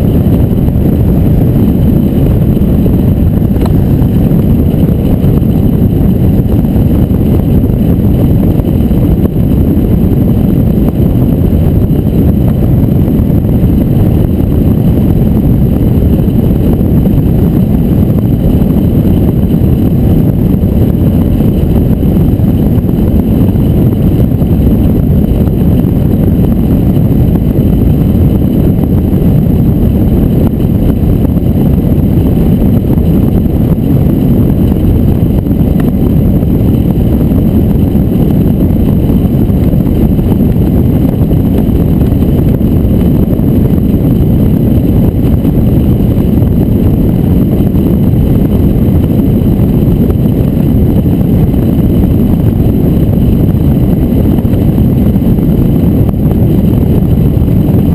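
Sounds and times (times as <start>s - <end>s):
wind rushing rumble: 0.0s - 57.9s.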